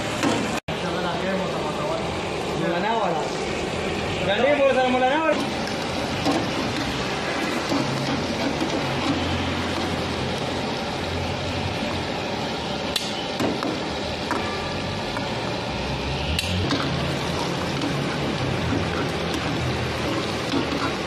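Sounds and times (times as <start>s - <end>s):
oil sizzling: 0.0s - 21.0s.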